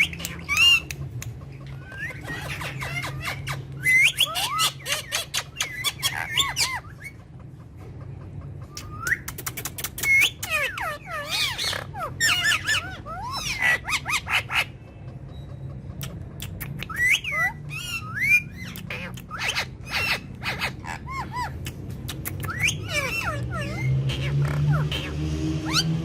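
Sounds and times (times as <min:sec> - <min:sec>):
parrots calling and chattering: 0:00.0 - 0:26.0.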